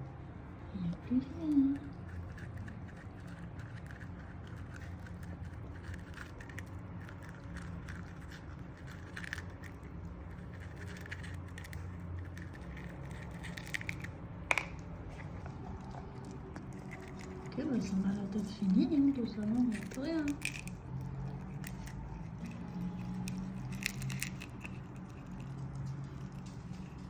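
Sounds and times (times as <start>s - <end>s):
ferret chewing and licking: 1.5s - 27.0s.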